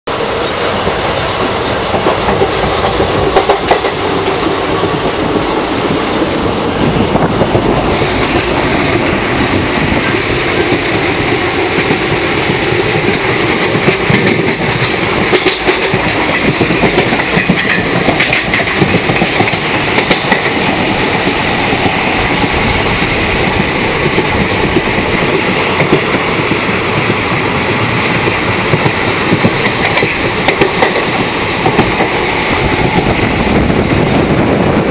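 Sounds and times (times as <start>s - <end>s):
wheels clicking over rail joints: 0.1s - 9.1s, 10.0s - 33.2s
train running noise: 0.1s - 34.9s.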